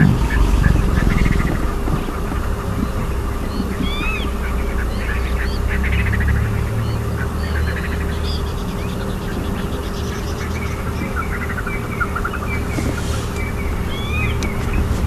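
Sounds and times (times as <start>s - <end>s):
birds chirping and chattering: 0.0s - 15.0s
steady low rumble: 0.0s - 15.0s.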